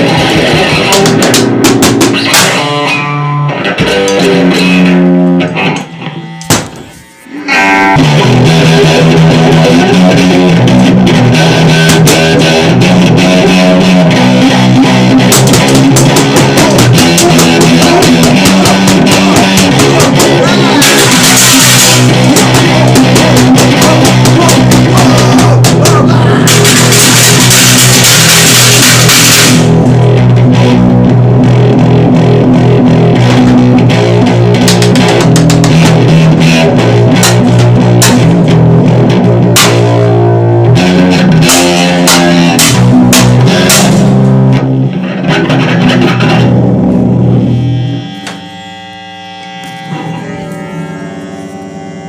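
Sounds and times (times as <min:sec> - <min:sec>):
distorted noise-rock band: 0:00.0 - 0:52.0.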